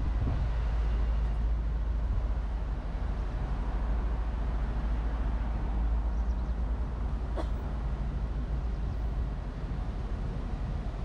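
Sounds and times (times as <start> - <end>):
street traffic: 0.0 - 11.0
wind buffeting microphone: 0.0 - 11.0.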